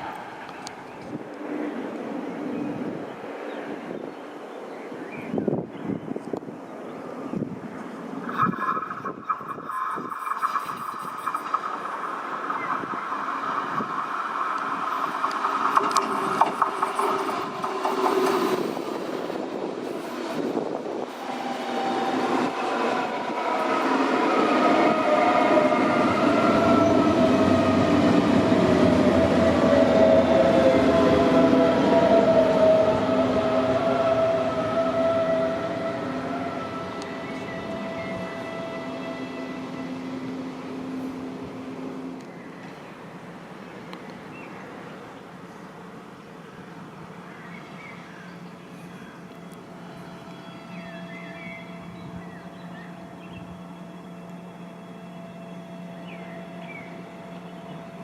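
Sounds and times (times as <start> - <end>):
electric train whining: 7.2 - 58.0.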